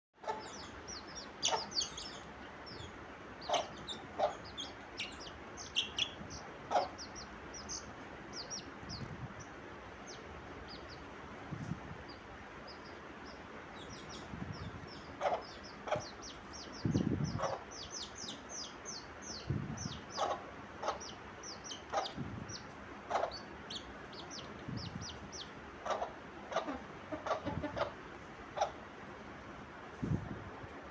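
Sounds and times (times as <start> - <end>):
chickens clucking and peeping: 0.2 - 30.9.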